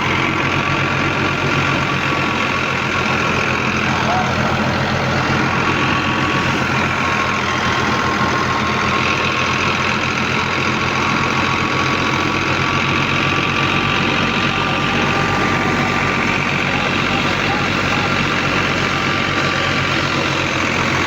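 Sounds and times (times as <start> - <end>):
farm machinery engine running: 0.0 - 21.0.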